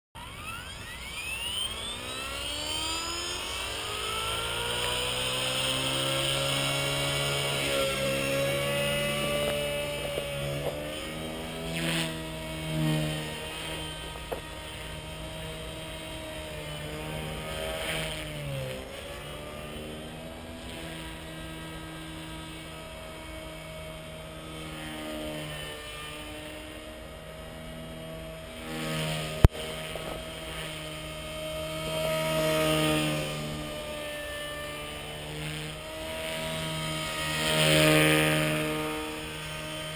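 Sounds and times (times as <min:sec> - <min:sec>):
rc helicopter motor whine: 0:00.2 - 0:39.9.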